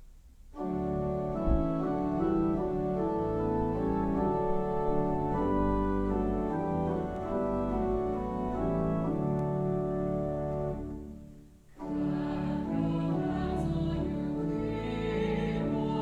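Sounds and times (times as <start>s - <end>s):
church organ playing chords: 0.6s - 16.0s.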